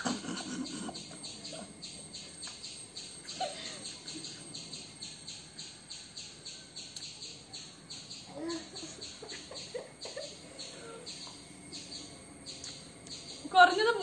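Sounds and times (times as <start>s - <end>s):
high-pitched rhythmic chirping: 0.0s - 14.0s.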